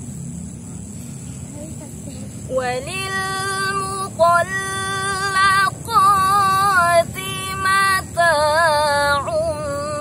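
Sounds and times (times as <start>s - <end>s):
woman reciting melodically: 1.5s - 10.0s.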